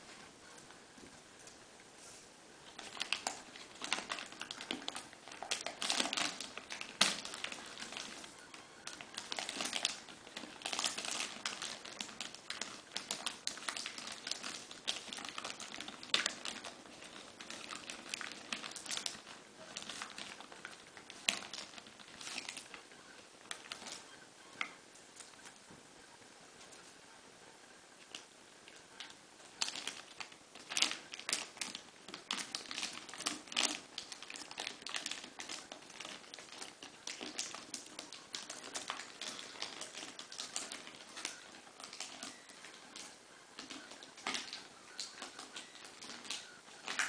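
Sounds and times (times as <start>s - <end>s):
plastic bag crinkling: 2.6s - 25.6s, 28.0s - 47.0s.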